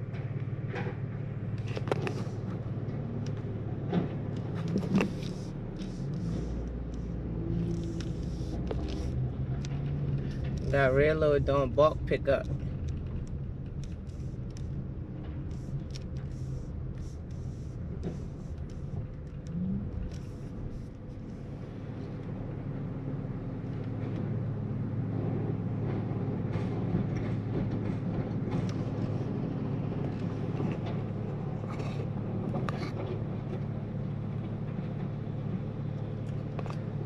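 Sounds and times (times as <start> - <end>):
car engine humming: 0.0 - 37.0.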